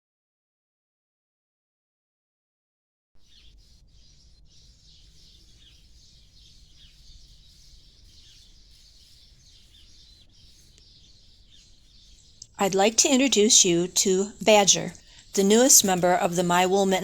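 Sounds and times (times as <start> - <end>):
small birds chirping: 3.2 - 17.0.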